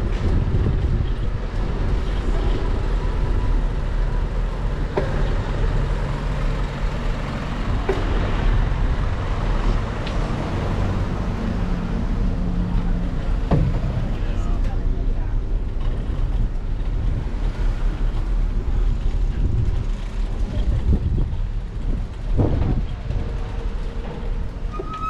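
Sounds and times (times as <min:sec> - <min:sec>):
steady low rumble: 0:00.0 - 0:24.7.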